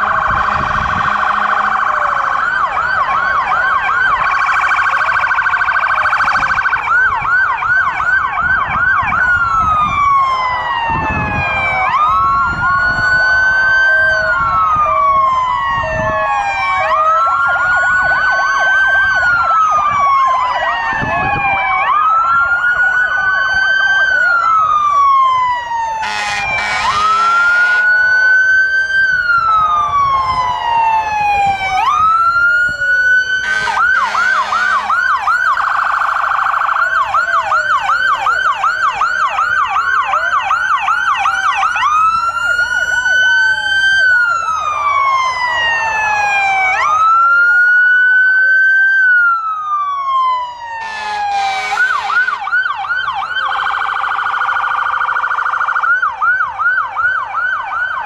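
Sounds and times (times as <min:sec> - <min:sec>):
fire truck siren wailing and yelping: 0:00.0 - 0:58.0
short loud siren bursts: 0:00.0 - 0:58.0.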